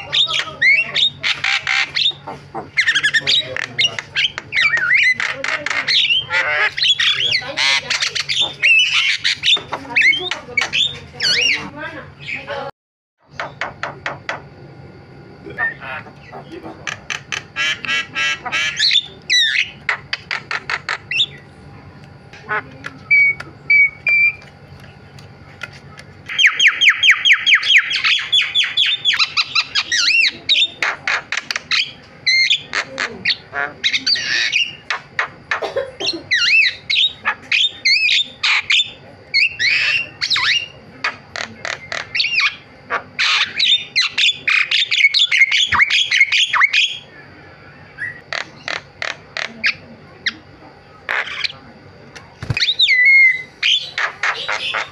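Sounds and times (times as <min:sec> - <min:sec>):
bird song with squawks and whistles: 0:00.0 - 0:12.5, 0:15.6 - 0:21.5, 0:22.5 - 0:24.4, 0:26.3 - 0:50.4, 0:51.1 - 0:51.6, 0:52.4 - 0:54.9.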